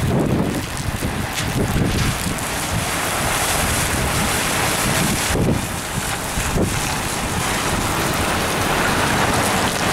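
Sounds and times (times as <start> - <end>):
heavy rain hiss: 0.0 - 9.9
wind buffeting microphone: 0.0 - 9.9.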